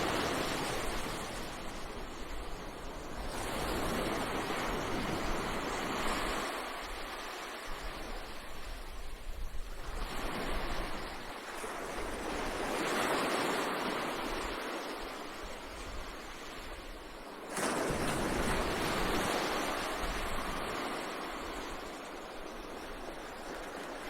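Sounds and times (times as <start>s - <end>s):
ocean waves breaking on beach: 0.0s - 24.0s.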